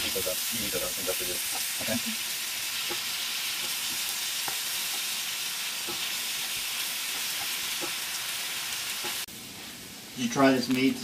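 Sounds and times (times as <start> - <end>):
meat and vegetables sizzling: 0.0 - 11.0.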